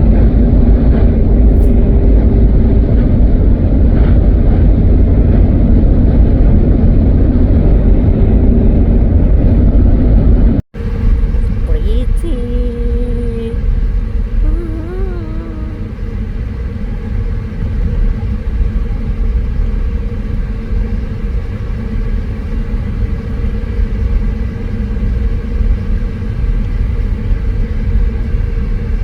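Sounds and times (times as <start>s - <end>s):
car road rumble inside cabin: 0.0s - 25.0s.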